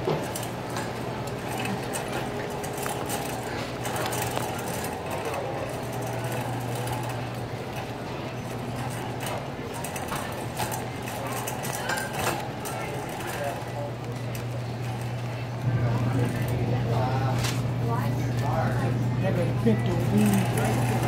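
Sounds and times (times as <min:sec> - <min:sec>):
shopping cart rattling: 0:00.0 - 0:21.0.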